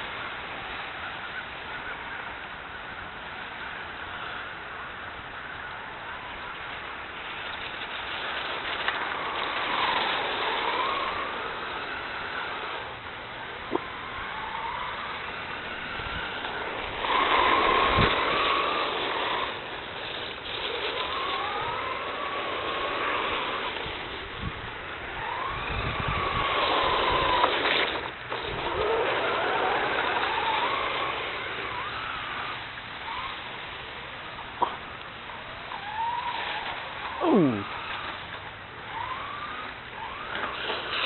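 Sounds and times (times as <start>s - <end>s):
toy car motor whining: 7.3s - 41.0s.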